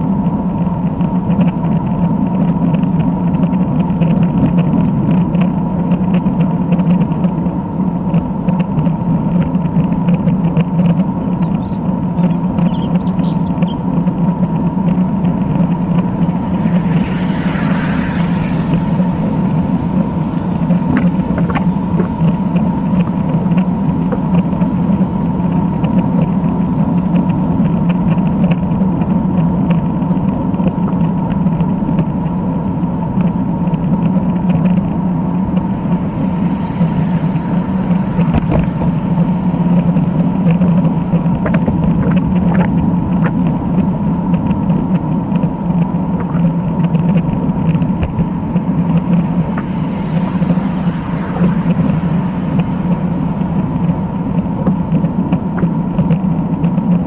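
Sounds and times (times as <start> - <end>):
faint whine: 0.0 - 57.0.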